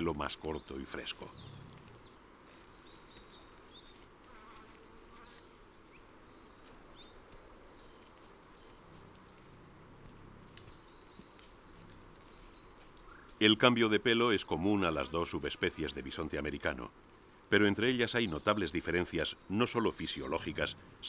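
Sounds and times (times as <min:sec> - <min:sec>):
low background hiss: 0:00.0 - 0:21.0.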